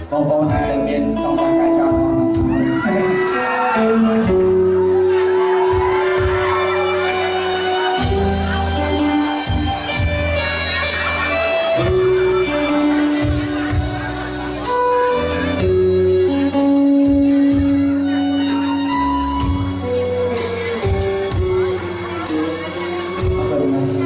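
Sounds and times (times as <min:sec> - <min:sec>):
bass: 0:00.0 - 0:24.0
lead melody of long held notes: 0:00.5 - 0:24.0
drum and cymbal hits: 0:02.0 - 0:24.0.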